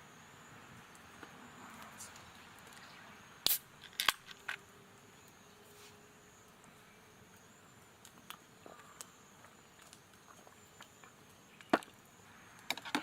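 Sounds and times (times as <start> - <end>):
faint steady high hiss: 0.0 - 13.0.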